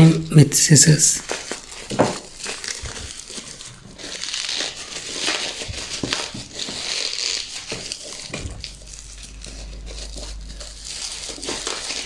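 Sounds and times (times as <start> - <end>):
packaging crinkling: 1.2 - 12.0.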